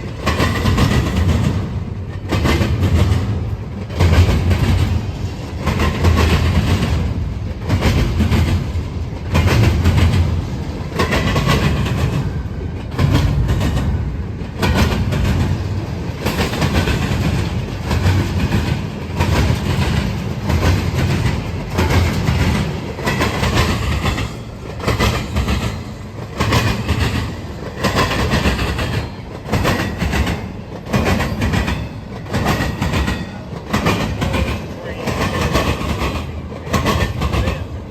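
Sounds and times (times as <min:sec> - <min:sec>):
railroad cars rumbling: 0:00.0 - 0:37.9
wheels clacking over rail joints: 0:00.0 - 0:37.9.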